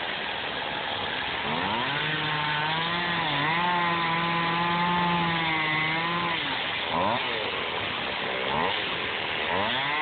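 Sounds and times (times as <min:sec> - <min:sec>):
chainsaw cutting foam: 0:00.0 - 0:10.0.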